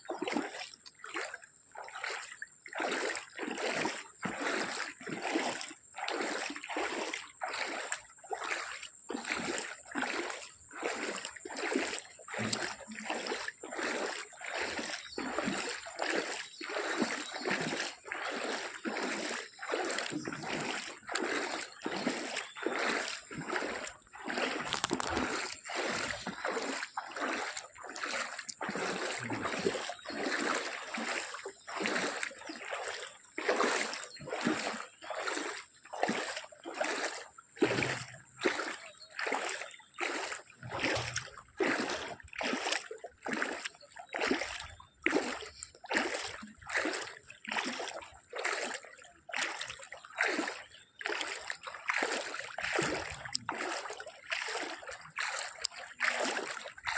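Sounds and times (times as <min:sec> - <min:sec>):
splashing in floodwater: 0:00.0 - 0:56.9.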